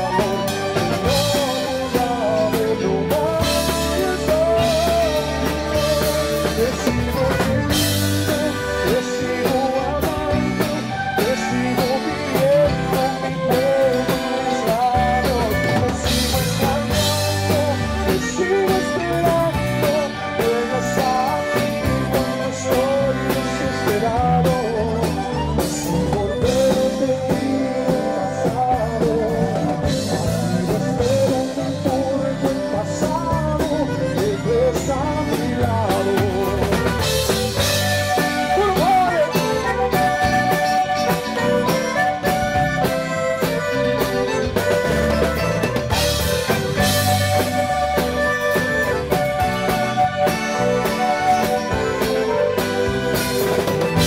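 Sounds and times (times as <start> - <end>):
accordion melody: 0.0 - 54.0
bass guitar: 0.0 - 54.0
drum kit beat: 0.0 - 54.0.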